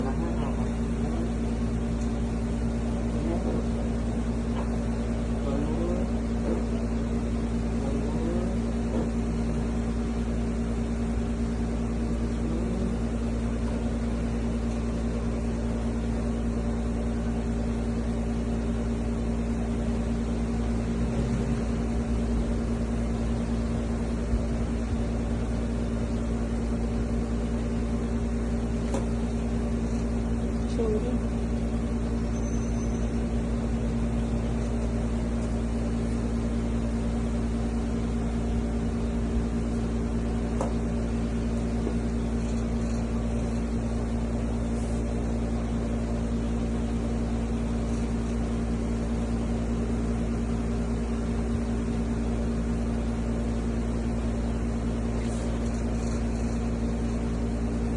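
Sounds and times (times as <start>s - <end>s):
steady machine hum: 0.0s - 57.9s.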